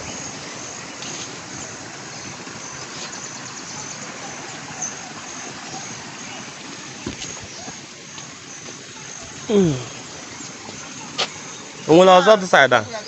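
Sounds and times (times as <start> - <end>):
insects chirping: 0.0 - 13.0
stream water rushing: 0.0 - 13.0.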